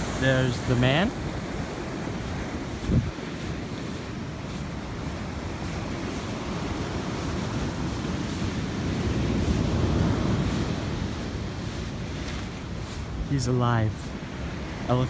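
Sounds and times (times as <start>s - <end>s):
surf washing on beach: 0.0s - 15.0s
wind rumbling on microphone: 0.0s - 15.0s.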